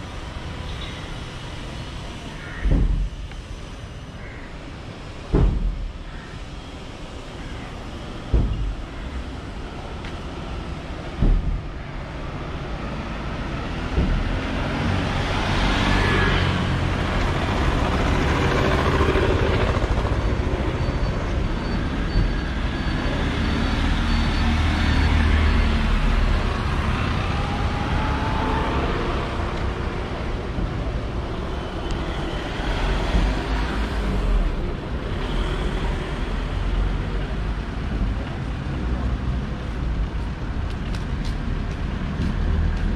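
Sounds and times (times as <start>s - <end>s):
vehicles passing on road: 0.0s - 42.9s.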